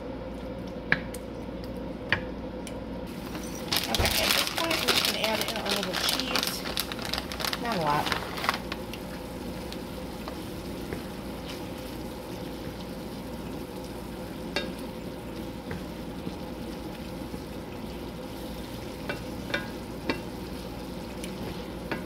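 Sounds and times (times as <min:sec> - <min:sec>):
meat sizzling in a skillet: 0:03.1 - 0:22.0.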